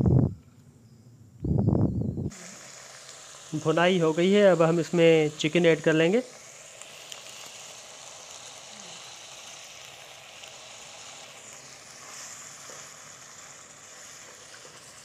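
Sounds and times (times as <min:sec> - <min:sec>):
chicken sizzling in hot oil: 0:02.3 - 0:15.0.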